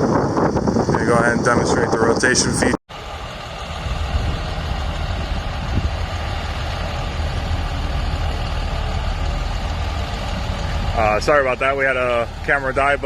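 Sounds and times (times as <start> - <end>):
diesel engine idling: 0.1 - 13.0.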